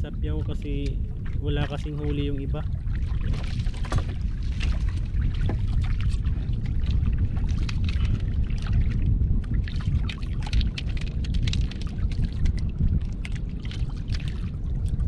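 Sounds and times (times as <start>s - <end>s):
wind rumbling on microphone: 0.0s - 15.0s
water splashes and drips: 0.2s - 15.0s.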